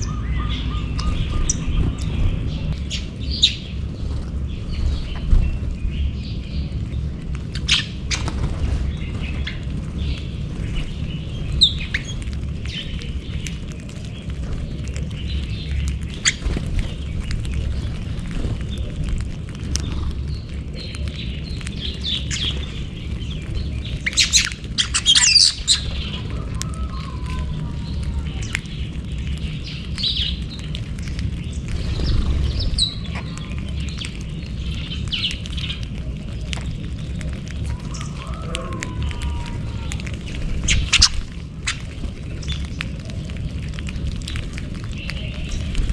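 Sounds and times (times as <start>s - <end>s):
beaks pecking on concrete: 0.0s - 45.9s
low rumble: 0.0s - 45.9s
small birds chirping: 0.0s - 45.9s.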